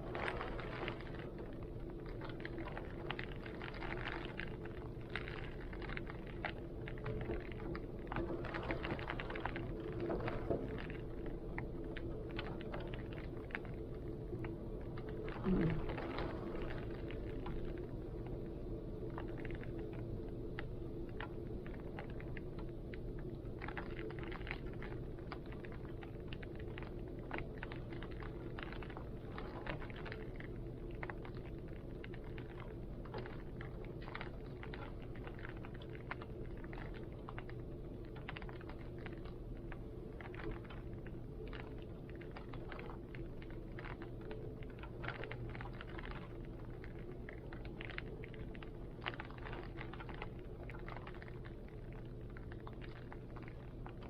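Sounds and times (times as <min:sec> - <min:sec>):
raindrops ticking and tapping: 0:00.0 - 0:54.0.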